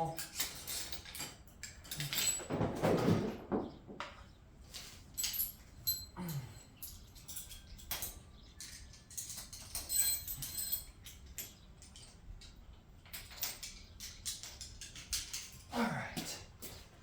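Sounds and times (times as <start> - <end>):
metal tools clinking: 0.0 - 3.3, 4.7 - 16.8.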